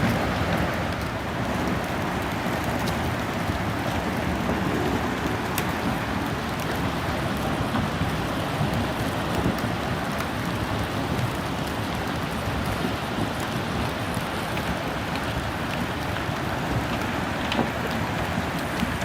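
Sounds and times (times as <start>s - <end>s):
water and ice rushing: 0.0s - 19.0s.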